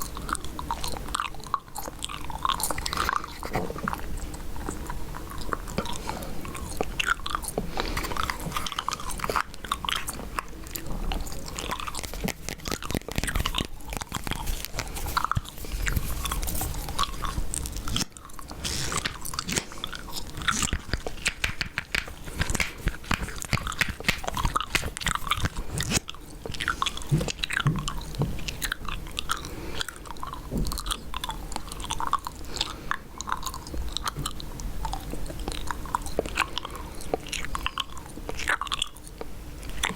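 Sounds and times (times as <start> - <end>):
wet mouth smacks chewing gum: 0.0 - 39.9.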